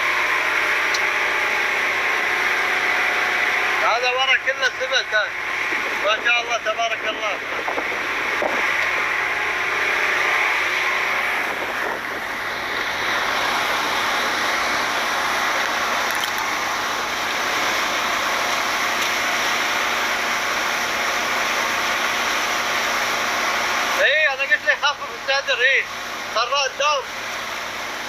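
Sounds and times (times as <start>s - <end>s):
wind and water rushing: 0.0s - 24.1s
boat motor running: 0.0s - 28.0s.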